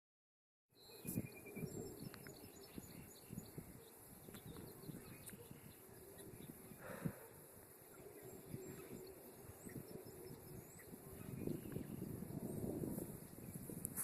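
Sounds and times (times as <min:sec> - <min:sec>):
faint bird chirps: 0:00.8 - 0:13.8.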